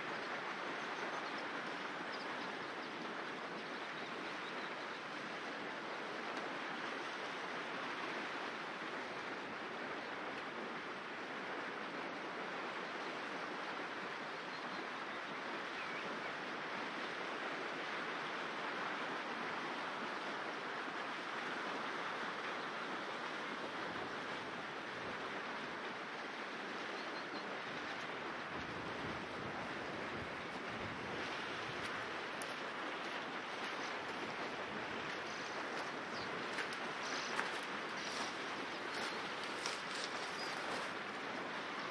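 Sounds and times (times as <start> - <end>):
river water rushing over stones: 0.0 - 41.9.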